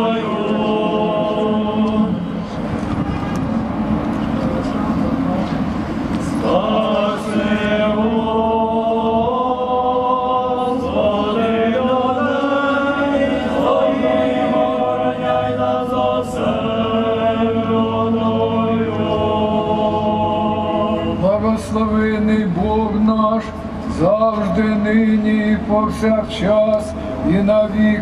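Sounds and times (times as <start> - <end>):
voices chanting a hymn: 0.0 - 2.7, 6.2 - 28.0.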